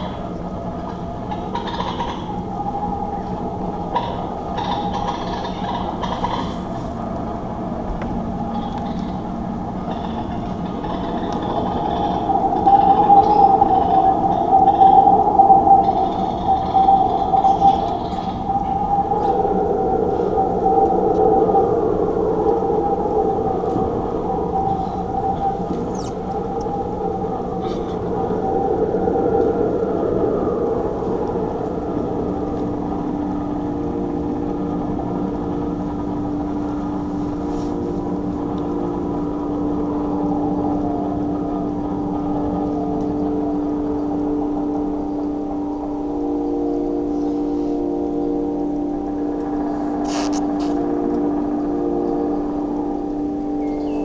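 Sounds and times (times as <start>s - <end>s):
droning ambient tones: 0.0s - 54.0s.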